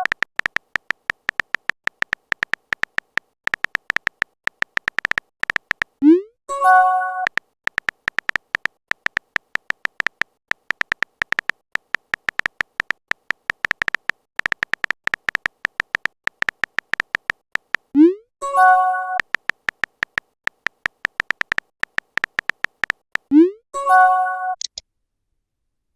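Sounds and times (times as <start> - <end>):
phone keyboard typing clicks: 0.0 - 6.0, 7.2 - 23.4.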